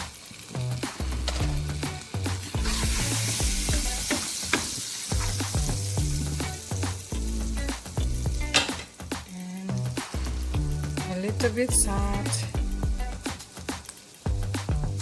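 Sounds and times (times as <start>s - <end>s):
background music: 0.0s - 15.0s
food sizzling in a hot pan: 0.0s - 15.0s.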